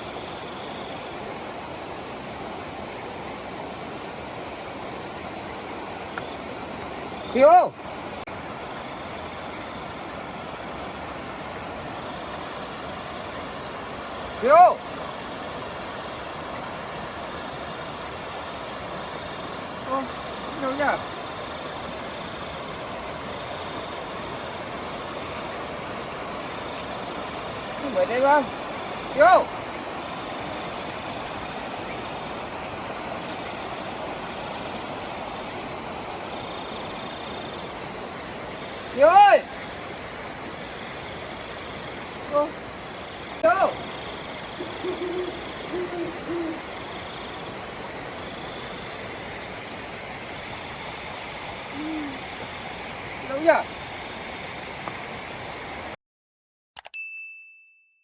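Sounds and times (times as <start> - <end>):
continuous high-pitched tone: 0.0 - 53.7
outdoor night hiss: 0.0 - 56.0.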